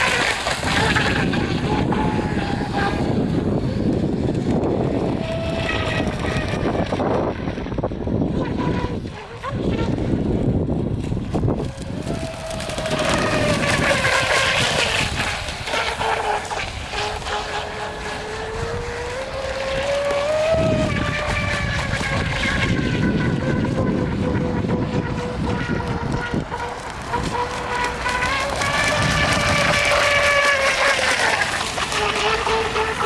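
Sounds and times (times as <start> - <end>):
model boat motor whine: 0.0 - 33.0.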